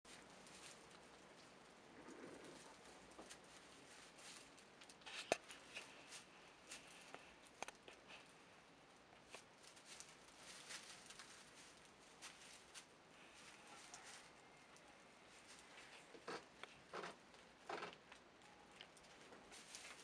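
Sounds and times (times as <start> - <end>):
goat kids stepping in straw: 0.1 - 16.1, 18.8 - 20.0
straw rustling: 0.1 - 17.1, 18.5 - 20.0.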